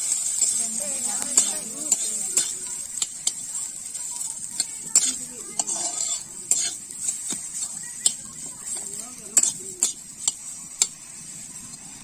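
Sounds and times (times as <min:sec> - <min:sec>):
oil sizzling: 0:00.0 - 0:12.0
spatula scraping a wok: 0:00.0 - 0:12.0.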